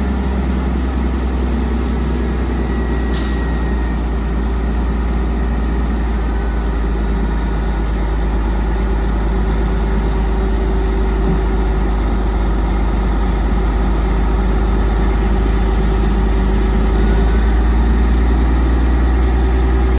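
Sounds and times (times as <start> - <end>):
diesel truck engine idling: 0.0 - 19.9.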